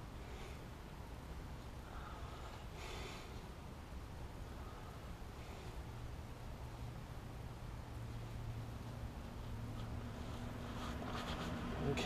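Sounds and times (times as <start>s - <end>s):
faint hiss: 0.0s - 12.0s
low steady hum: 0.0s - 12.0s.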